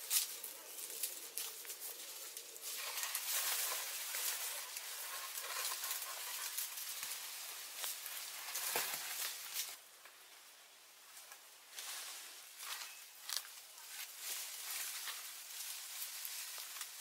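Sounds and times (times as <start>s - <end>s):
dense rustling and crackling: 0.0s - 9.8s, 11.1s - 17.0s.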